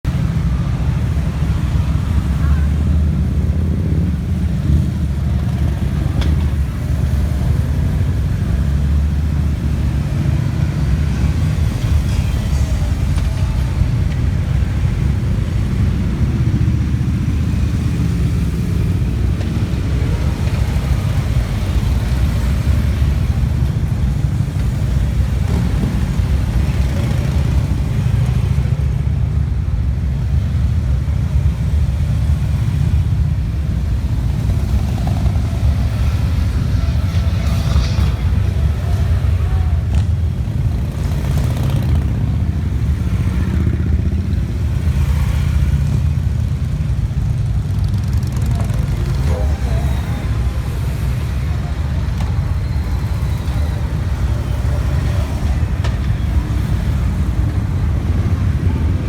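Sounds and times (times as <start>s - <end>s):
motorcycle engines rumbling: 0.1s - 59.0s.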